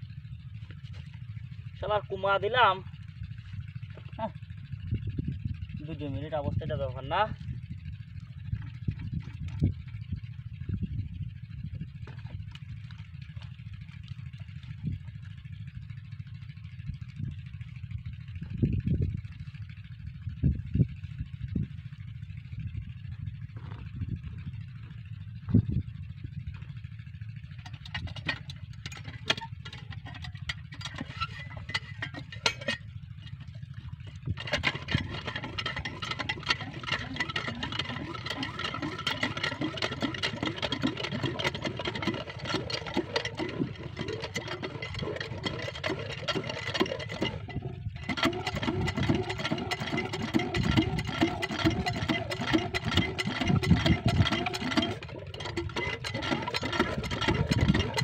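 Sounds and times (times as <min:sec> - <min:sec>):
diesel engine knocking: 0:00.0 - 0:58.0.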